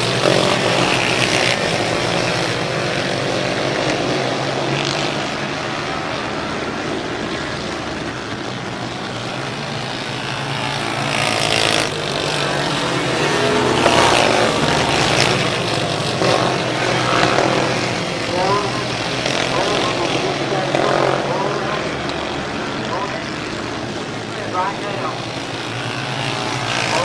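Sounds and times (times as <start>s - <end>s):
race car engines howling: 0.0s - 27.0s.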